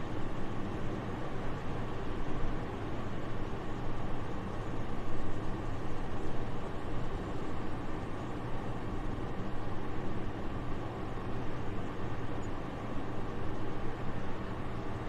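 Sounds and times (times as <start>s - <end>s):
soft steady wind: 0.0s - 15.0s.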